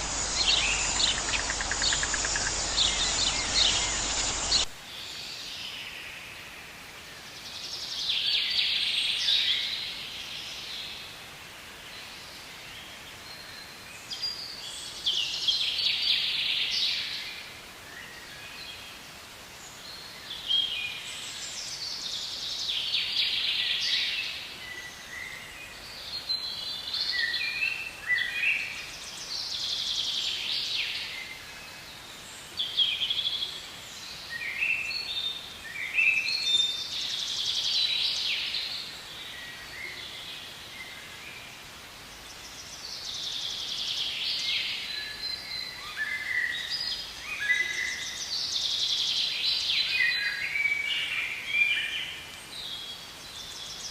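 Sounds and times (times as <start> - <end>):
songbirds chirping and trilling: 0.0 - 53.9.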